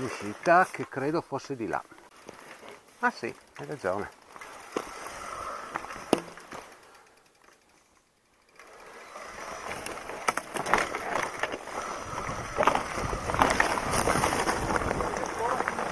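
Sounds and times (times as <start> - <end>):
bike clicks and rattles: 0.0 - 15.9
bike tyres crunching on pine needles: 0.0 - 15.9.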